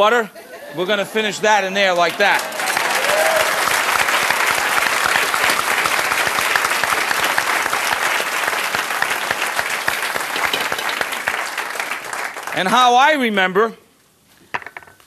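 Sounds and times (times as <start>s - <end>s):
audience applauding: 0.8s - 12.9s.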